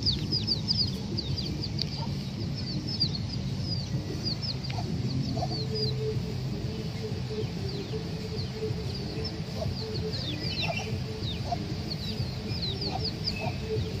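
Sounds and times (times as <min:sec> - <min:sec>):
chick peeping: 0:00.0 - 0:14.0
hen clucking: 0:00.0 - 0:14.0
low background rumble: 0:00.0 - 0:14.0.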